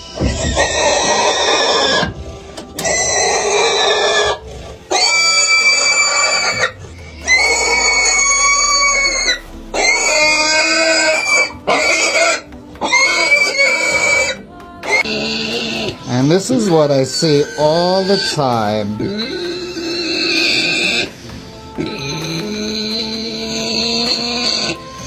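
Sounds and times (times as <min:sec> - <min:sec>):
pig squealing loudly: 0:00.0 - 0:25.0.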